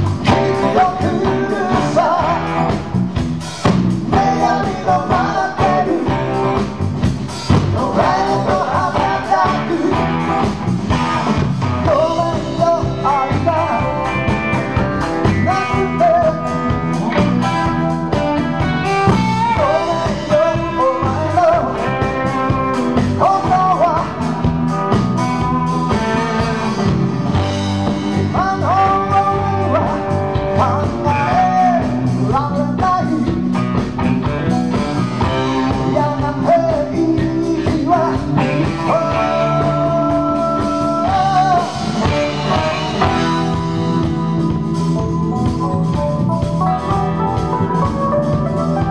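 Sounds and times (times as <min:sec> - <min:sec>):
bending lead guitar or voice: 0:00.0 - 0:48.9
live blues-rock band: 0:00.0 - 0:48.9.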